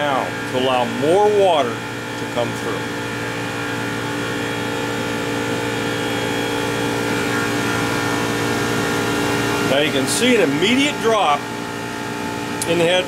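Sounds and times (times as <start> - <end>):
heat pump mechanical hum: 0.0 - 13.0.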